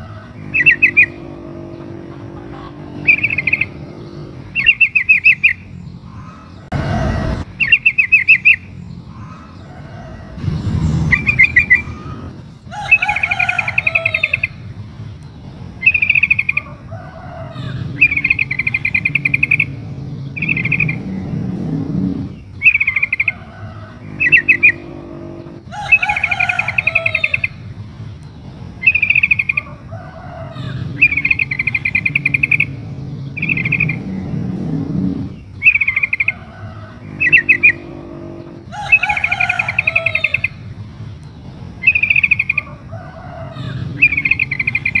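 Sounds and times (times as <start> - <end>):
bird chattering calls: 0.0 - 45.0.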